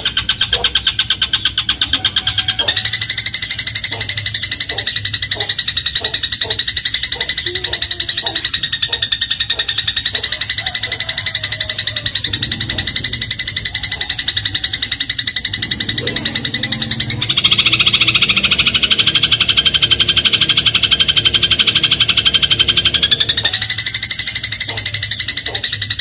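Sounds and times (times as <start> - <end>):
sparrow rattling trill: 0.0 - 26.0.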